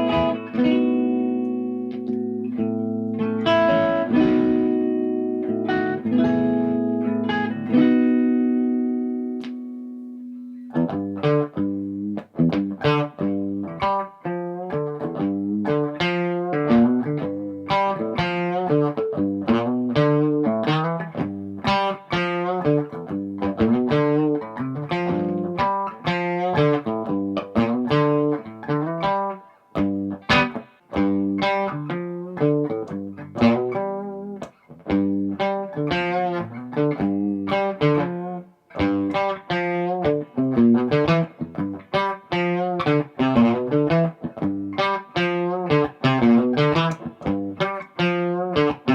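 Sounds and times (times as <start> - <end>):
electric guitar notes and chords: 0.0 - 48.9.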